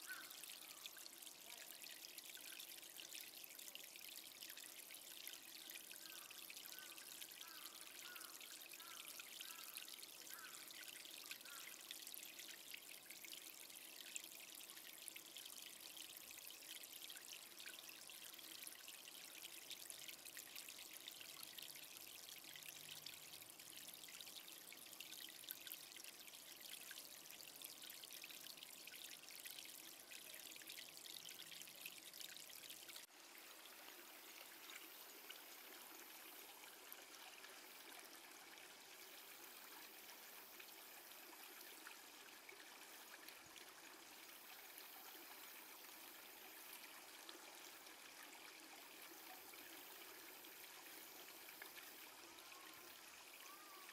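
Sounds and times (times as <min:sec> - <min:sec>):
water splashing into a pond: 0:00.0 - 0:53.9.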